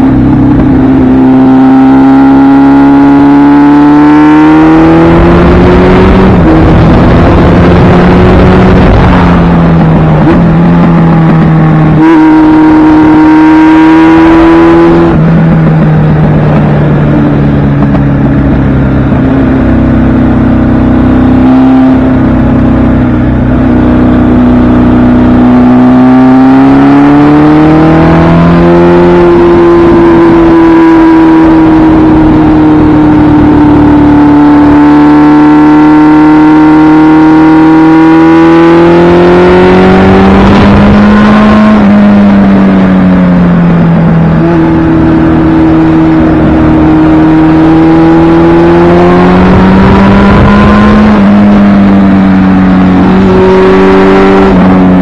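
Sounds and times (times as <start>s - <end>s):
motorcycle engine accelerating: 0.0s - 55.0s
wind rush on microphone: 4.6s - 35.6s, 37.0s - 55.0s.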